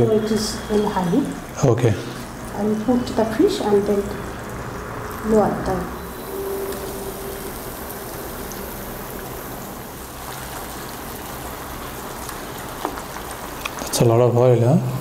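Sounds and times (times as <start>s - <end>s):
gravy boiling and spattering: 0.0s - 15.0s.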